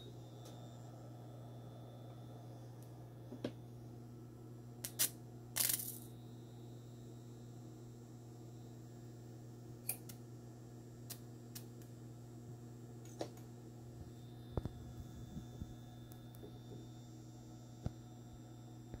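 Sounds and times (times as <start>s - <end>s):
faint high whine: 0.0s - 19.0s
steady low hum: 0.0s - 19.0s.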